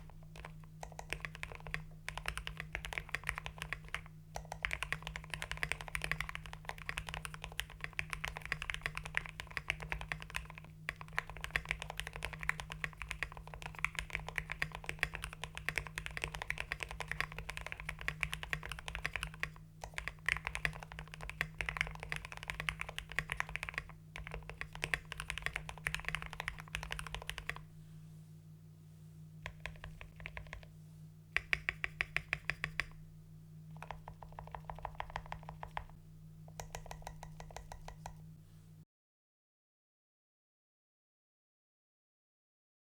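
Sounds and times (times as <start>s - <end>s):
typing on mechanical keyboard: 0.0s - 27.6s, 29.4s - 30.7s, 31.4s - 33.0s, 33.8s - 38.2s.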